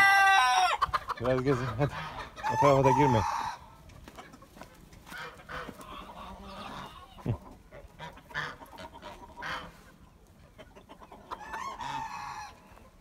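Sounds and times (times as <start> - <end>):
poultry squawks and clucks: 0.0 - 13.0.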